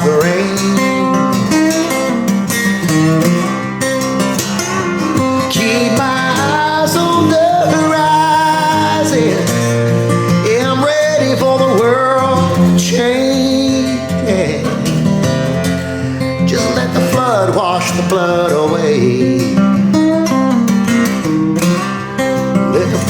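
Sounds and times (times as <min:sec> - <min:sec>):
country song with acoustic guitar: 0:00.0 - 0:23.0.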